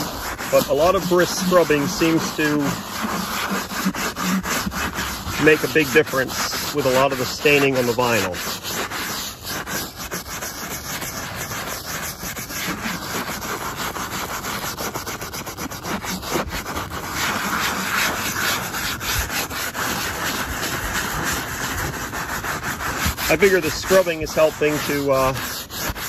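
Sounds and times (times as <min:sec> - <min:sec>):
brush scrubbing wet vinyl: 0:00.0 - 0:26.0.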